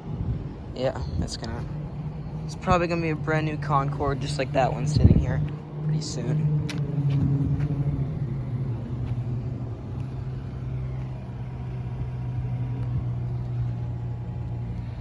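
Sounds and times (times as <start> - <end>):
air conditioning units humming: 0.0 - 15.0.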